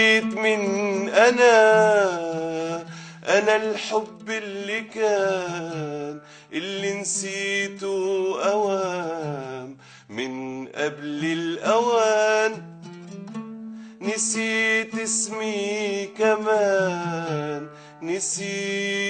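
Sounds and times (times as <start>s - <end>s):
oud playing: 0.0s - 9.7s, 11.0s - 19.0s
man singing: 0.0s - 12.8s, 14.0s - 19.0s.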